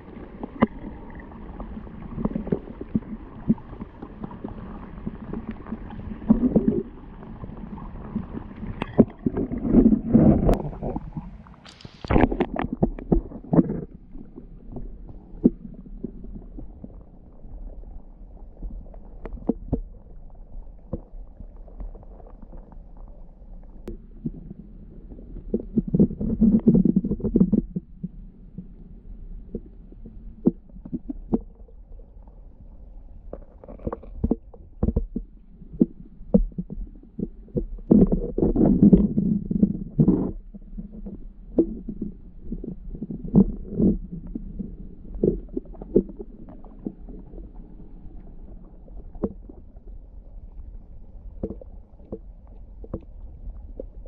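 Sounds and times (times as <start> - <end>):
underwater stream gurgling: 0.0 - 54.0.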